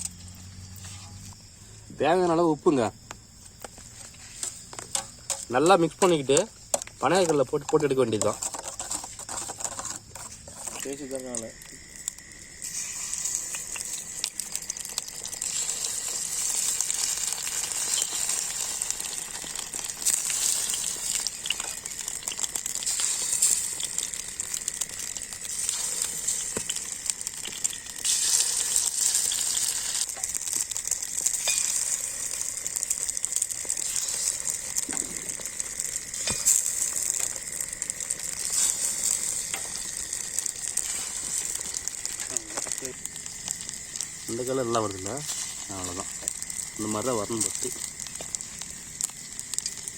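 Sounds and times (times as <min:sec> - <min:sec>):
batter sizzling in hot oil: 0:00.0 - 0:49.9.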